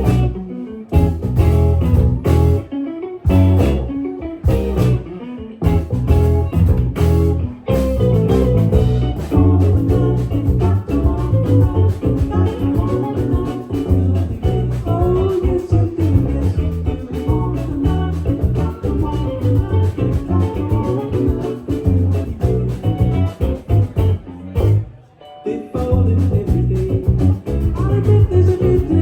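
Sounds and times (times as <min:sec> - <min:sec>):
drums on steady beat: 0:00.0 - 0:00.3, 0:01.0 - 0:02.6, 0:03.3 - 0:03.8, 0:04.5 - 0:05.0, 0:05.6 - 0:24.8, 0:26.0 - 0:29.0
bass guitar: 0:00.0 - 0:25.0, 0:25.7 - 0:29.0
electric guitar: 0:00.0 - 0:29.0.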